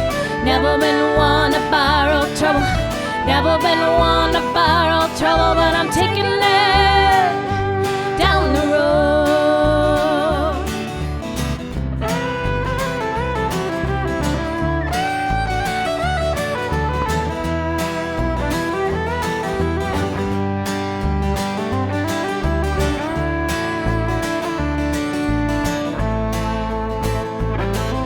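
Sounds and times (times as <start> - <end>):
bass line: 0.0 - 28.0
sliding lead instrument melody: 0.0 - 28.0
strummed chords: 0.0 - 28.0.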